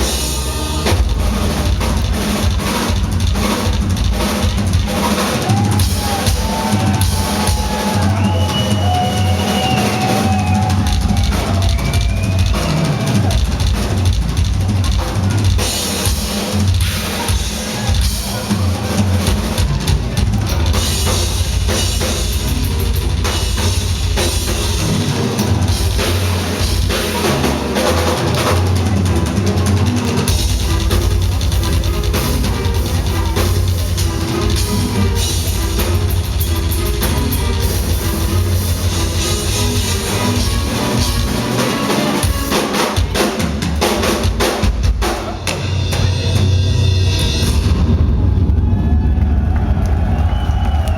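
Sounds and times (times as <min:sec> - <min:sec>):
heavy metal drum solo: 0:00.0 - 0:50.9.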